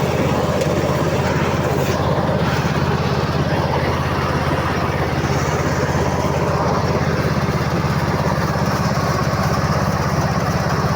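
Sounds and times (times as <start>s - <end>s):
harvester engine running: 0.0s - 10.9s.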